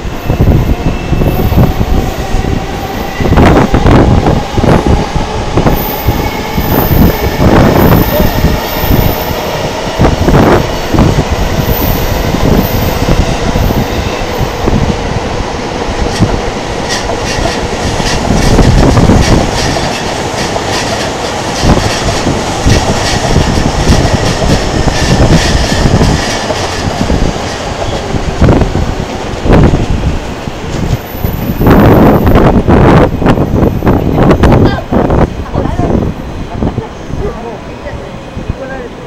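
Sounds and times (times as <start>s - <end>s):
trains rumbling: 0.0s - 39.0s.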